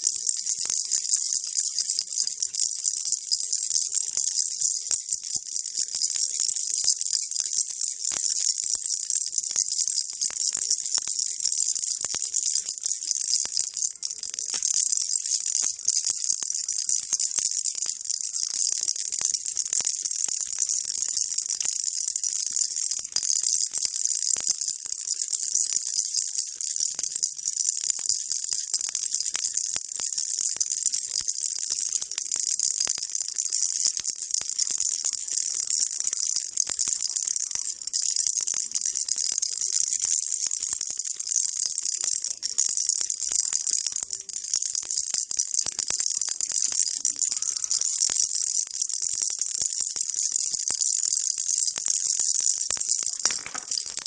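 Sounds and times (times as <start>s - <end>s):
baby rattle shaking: 0.0s - 54.0s.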